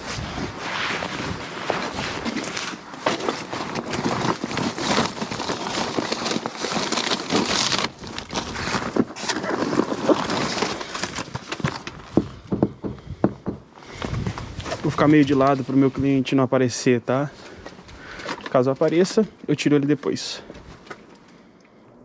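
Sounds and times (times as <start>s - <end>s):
paper and plastic rustling: 0.0s - 12.5s, 13.8s - 21.3s.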